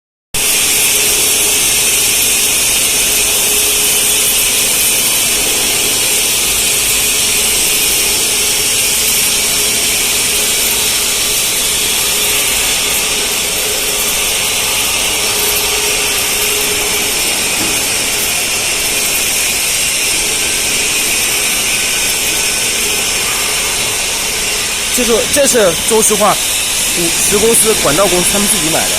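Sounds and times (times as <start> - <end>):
welding machine hiss: 0.4 - 28.9.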